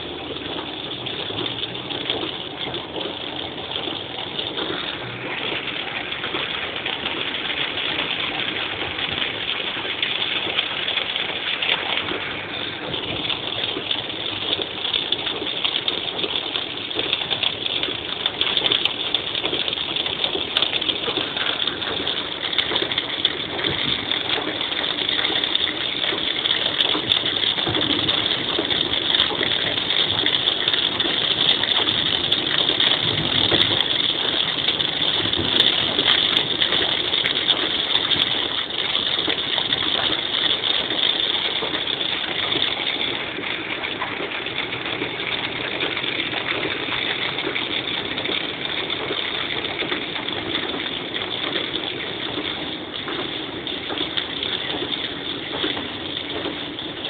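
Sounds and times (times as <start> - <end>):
heavy rain on a car: 0.0 - 57.0
tyres swishing through water: 0.0 - 57.0.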